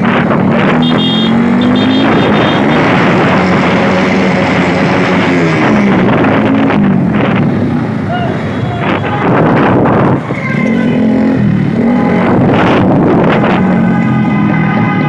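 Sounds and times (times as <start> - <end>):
motorcycle engine revving: 0.0 - 7.6, 9.6 - 14.4.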